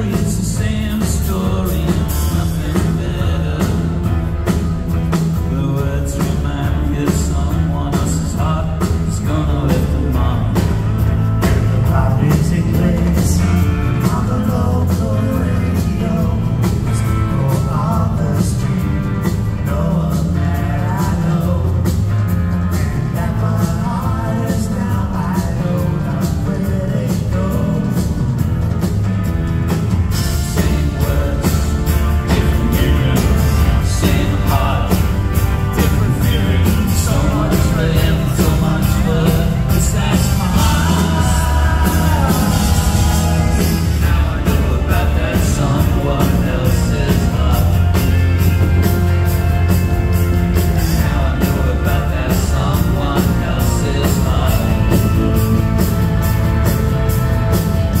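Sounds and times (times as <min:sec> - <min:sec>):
man singing lead vocal: 0:00.0 - 0:28.5, 0:30.1 - 0:58.0
live pop-rock band: 0:00.0 - 0:58.0.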